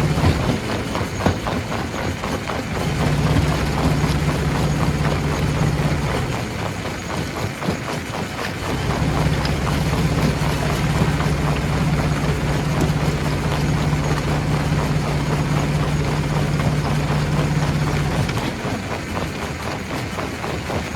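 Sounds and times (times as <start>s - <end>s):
machine hum: 0.0s - 7.4s, 8.4s - 20.8s
rock rattling and clattering: 0.0s - 20.9s.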